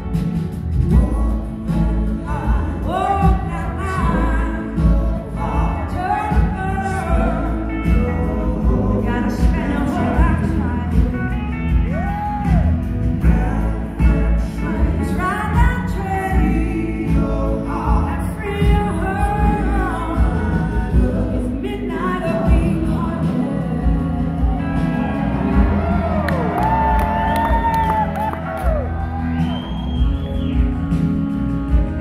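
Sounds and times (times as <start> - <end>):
live blues-rock band playing: 0.0 - 32.0
person singing: 0.7 - 28.1
backing singers: 0.8 - 31.9.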